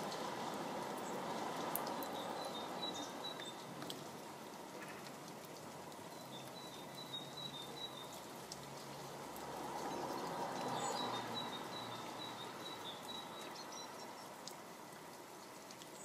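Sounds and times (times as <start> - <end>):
rain hiss: 0.0 - 16.0
water drips: 0.0 - 16.0.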